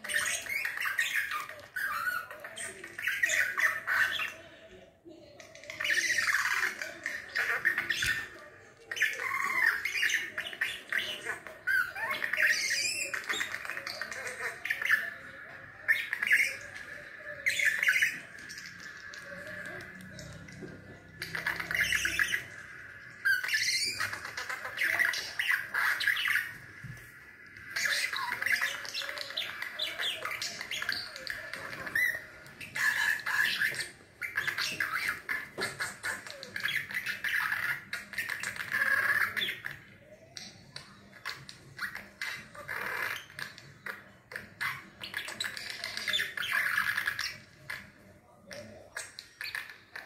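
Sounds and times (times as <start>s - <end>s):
budgerigar chirping and squawking: 5.6s - 26.7s, 27.6s - 39.8s, 40.9s - 47.9s.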